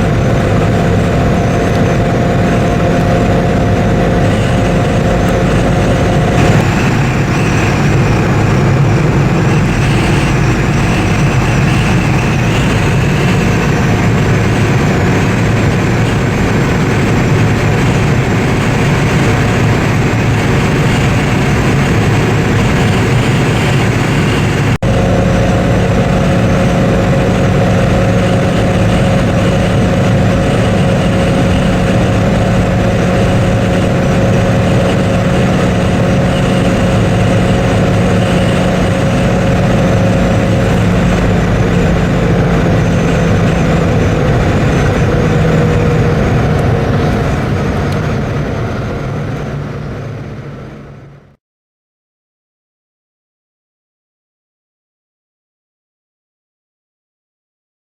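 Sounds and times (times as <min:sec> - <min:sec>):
car engine at high revs: 0:00.0 - 0:51.4
road and wind noise: 0:00.0 - 0:51.4.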